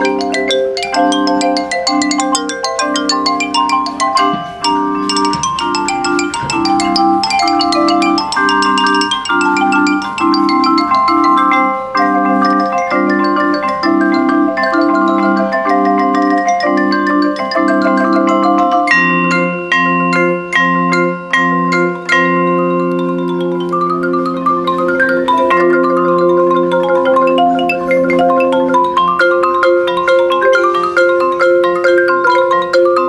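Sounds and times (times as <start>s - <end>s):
marimba runs of high notes: 0.0s - 33.0s
sustained low marimba chords: 0.0s - 33.0s.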